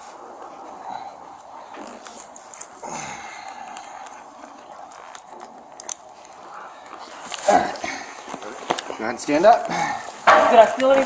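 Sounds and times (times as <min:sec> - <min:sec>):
clothing rustling: 0:00.0 - 0:11.0.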